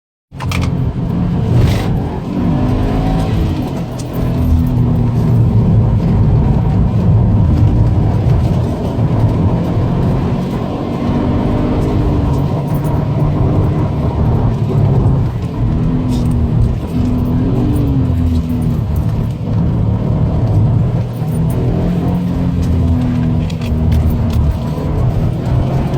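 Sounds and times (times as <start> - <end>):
car engine driven hard: 0.3 - 25.9.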